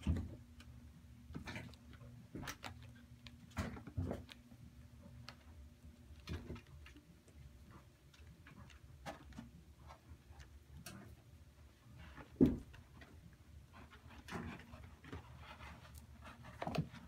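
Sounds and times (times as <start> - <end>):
faint low hum: 0.0 - 17.0
kitten paws tapping and scratching: 0.0 - 17.0.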